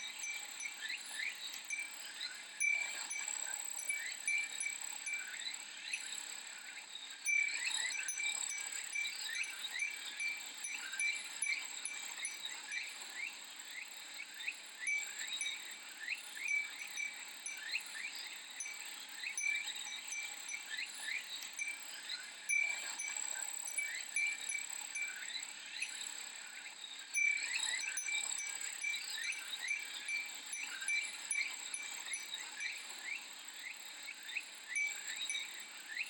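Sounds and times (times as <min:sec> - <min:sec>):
cicadas droning: 0:00.0 - 0:36.0
glass wind chime tinkling: 0:00.0 - 0:36.0.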